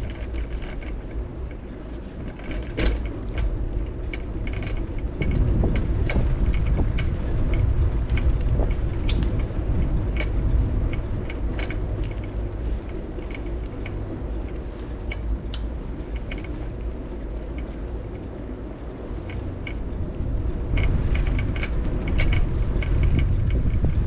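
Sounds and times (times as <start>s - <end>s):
bicycle clicks and rattles: 0.0s - 24.0s
wind and road noise rumble: 0.0s - 24.0s.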